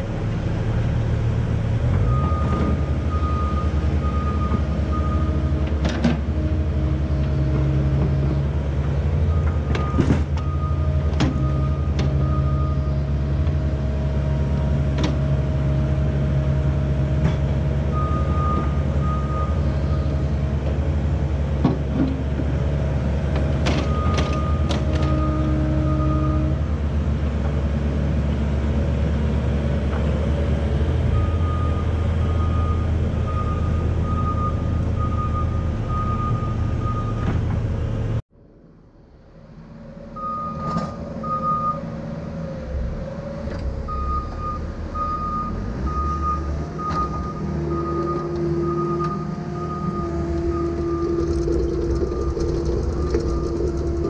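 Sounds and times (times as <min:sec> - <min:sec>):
diesel excavator engine running: 0:00.0 - 0:54.0.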